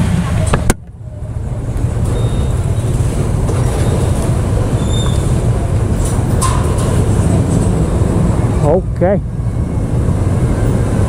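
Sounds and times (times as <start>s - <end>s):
motorcycle engine rumble: 0.0s - 11.0s
road and wind noise: 0.0s - 11.0s.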